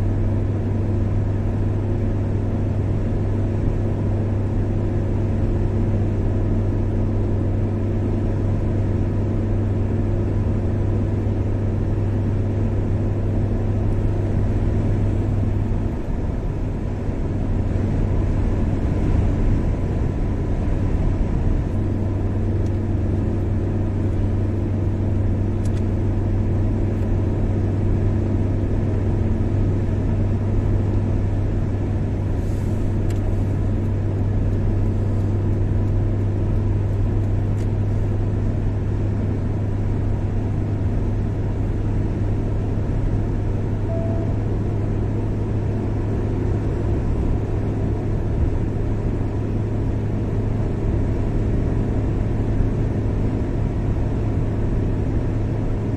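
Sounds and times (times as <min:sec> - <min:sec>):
car engine drone: 0:00.0 - 0:55.9
road noise: 0:00.0 - 0:55.9.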